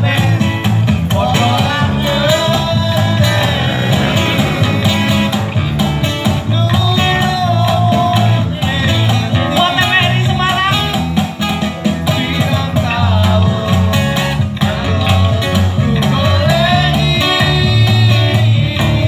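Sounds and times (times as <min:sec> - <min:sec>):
man singing into a microphone: 0:00.0 - 0:05.1, 0:06.4 - 0:11.1, 0:11.9 - 0:19.0
cajon beat: 0:00.0 - 0:19.0
guitars: 0:00.0 - 0:19.0.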